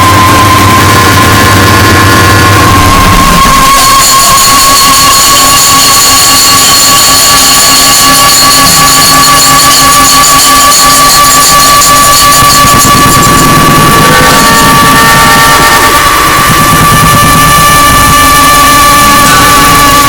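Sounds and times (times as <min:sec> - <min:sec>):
harsh distorted noise music: 0:00.0 - 0:20.0
piercing whine: 0:00.0 - 0:20.0
shrill fluttering tones: 0:00.0 - 0:20.0.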